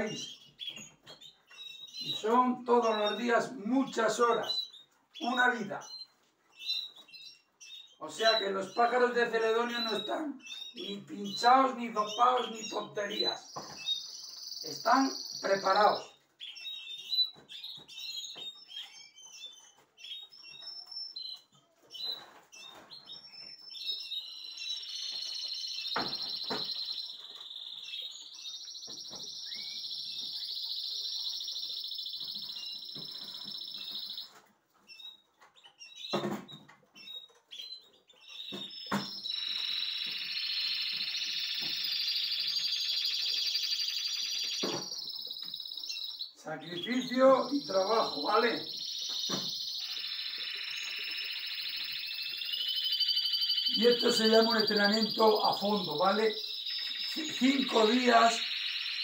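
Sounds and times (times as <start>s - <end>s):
canaries singing trills: 0.0s - 59.0s.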